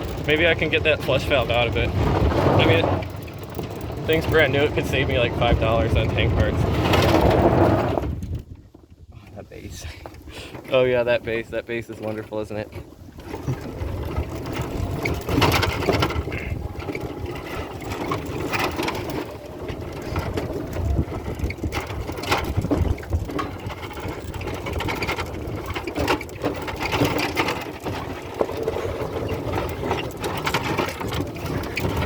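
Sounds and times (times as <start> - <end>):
cart knocking over bumps: 0.0 - 8.6, 10.1 - 32.0
golf cart rumbling and rattling: 0.0 - 32.0.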